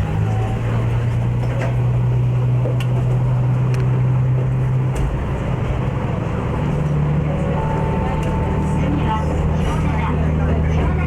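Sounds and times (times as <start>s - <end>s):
train running hum: 0.0s - 11.0s.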